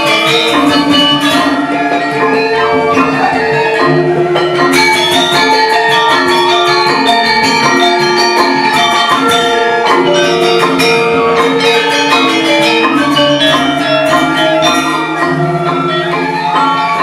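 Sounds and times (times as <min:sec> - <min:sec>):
gamelan music: 0:00.0 - 0:17.0.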